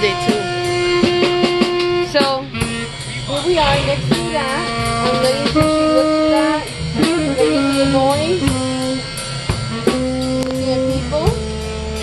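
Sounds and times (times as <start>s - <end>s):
drum kit: 0.0s - 12.0s
electric guitar long notes: 0.0s - 12.0s.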